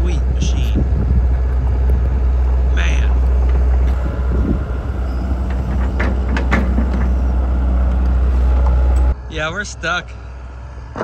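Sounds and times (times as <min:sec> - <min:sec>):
excavator diesel engine rumble: 0:00.0 - 0:11.0.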